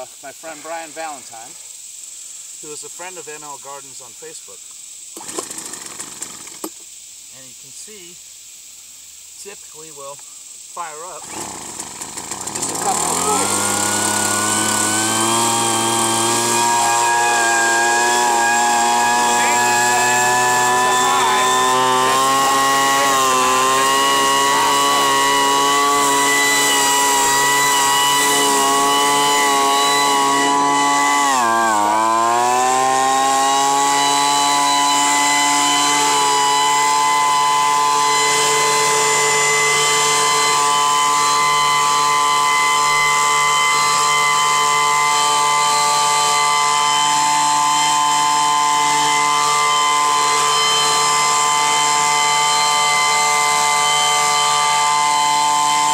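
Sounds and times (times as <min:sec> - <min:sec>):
leaf blower engine whine: 0:05.2 - 0:06.8, 0:11.0 - 0:55.9.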